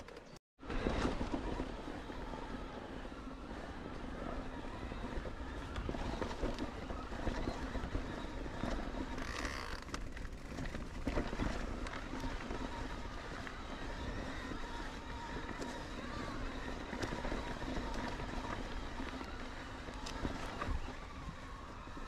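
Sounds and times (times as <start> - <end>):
bike rattling and knocking: 0.0 - 22.0
tyres rolling over dirt and stones: 0.0 - 22.0.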